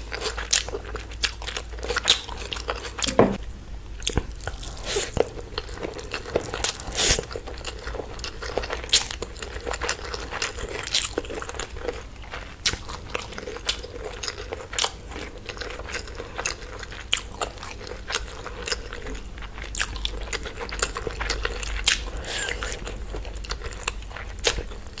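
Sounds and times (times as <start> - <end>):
person chewing food: 0.0 - 3.4, 4.0 - 25.0.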